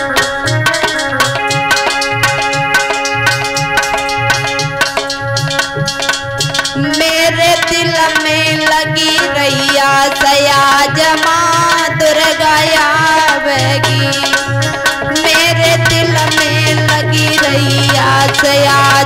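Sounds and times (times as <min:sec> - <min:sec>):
hand drum beat: 0:00.0 - 0:19.0
sustained instrumental chords: 0:00.0 - 0:19.0.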